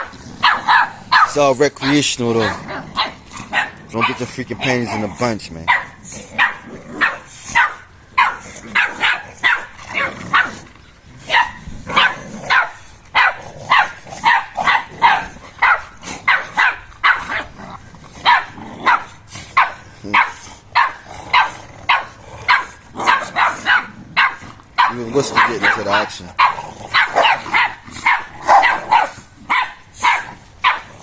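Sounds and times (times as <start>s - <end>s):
dogs barking: 0.0s - 31.0s.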